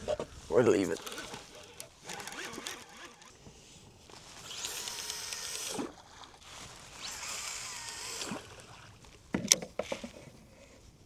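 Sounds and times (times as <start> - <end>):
paddle strokes swishing through water: 0.0 - 11.0.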